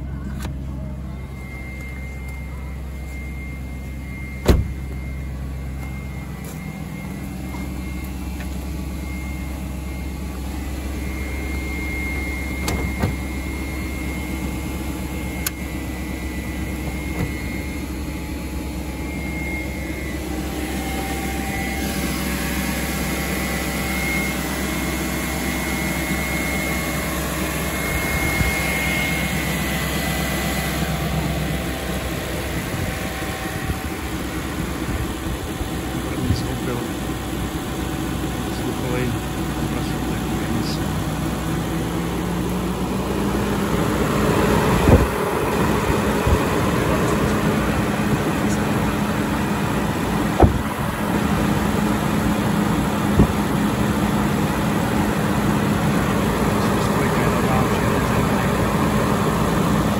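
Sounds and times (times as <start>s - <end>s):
car engine idling: 0.0s - 59.9s
high air pump whine: 0.0s - 59.9s.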